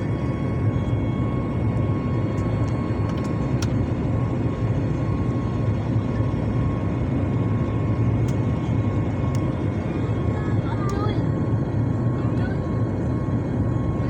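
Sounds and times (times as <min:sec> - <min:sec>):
jet engine rumble and whine: 0:00.0 - 0:14.0.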